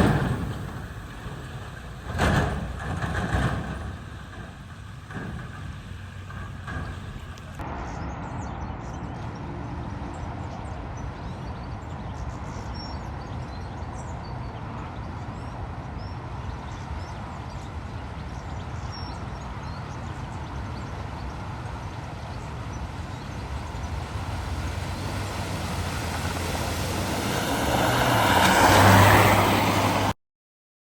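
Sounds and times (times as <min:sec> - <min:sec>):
vehicle engine rumble: 0:00.0 - 0:30.2.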